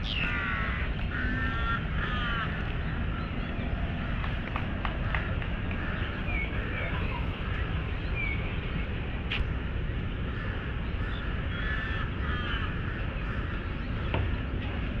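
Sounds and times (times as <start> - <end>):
birds calling: 0.0 - 15.0
low city rumble: 0.0 - 15.0.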